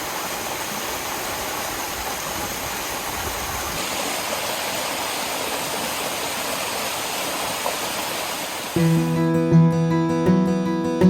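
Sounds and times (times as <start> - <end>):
creek water rushing at waterfall: 0.0 - 9.1.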